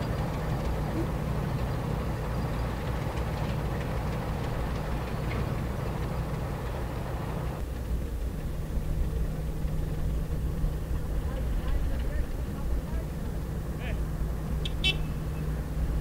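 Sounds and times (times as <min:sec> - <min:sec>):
diesel locomotive engine hum: 0:00.0 - 0:16.0.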